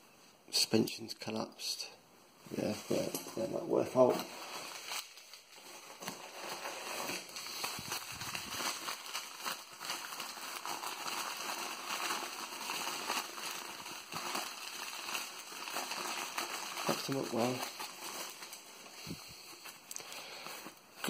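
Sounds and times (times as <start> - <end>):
newspaper crumpling: 2.6 - 21.0.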